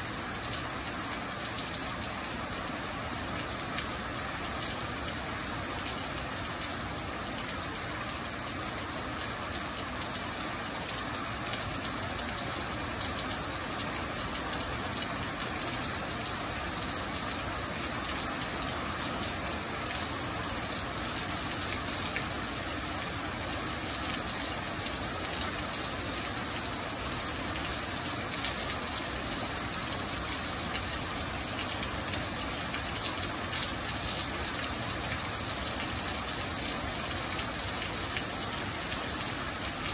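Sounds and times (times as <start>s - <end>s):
rain splashing on pavement: 0.0s - 39.9s.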